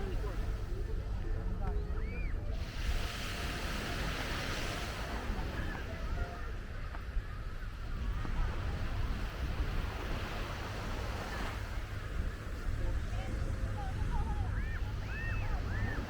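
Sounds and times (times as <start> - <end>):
ocean waves breaking: 0.0 - 1.4, 2.5 - 16.0
wind rumbling on microphone: 0.0 - 16.0.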